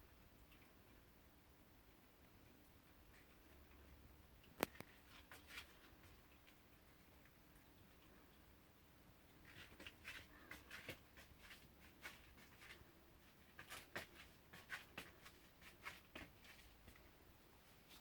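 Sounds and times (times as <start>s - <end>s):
kittens scratching and rustling: 2.2s - 18.0s.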